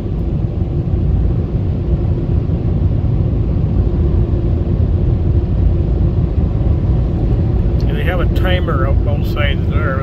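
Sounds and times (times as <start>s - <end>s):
car wash blowers blasting air: 0.0s - 10.0s
faint steady hum: 0.0s - 10.0s.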